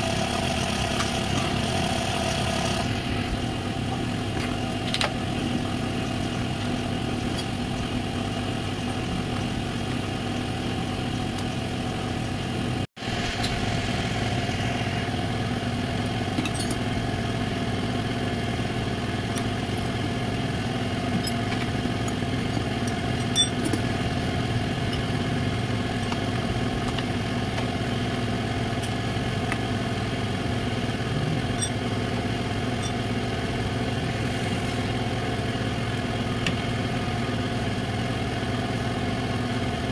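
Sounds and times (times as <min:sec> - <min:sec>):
engine idling hum: 0:00.0 - 0:39.9.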